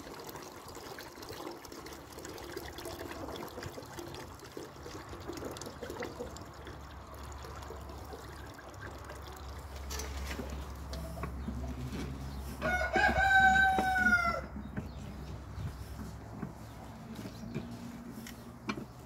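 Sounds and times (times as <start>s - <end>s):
hot water and wax trickling: 0.0s - 19.0s.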